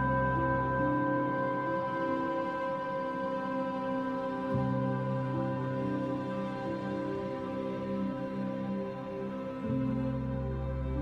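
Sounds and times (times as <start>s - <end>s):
meditation music long held tones: 0.0s - 11.0s.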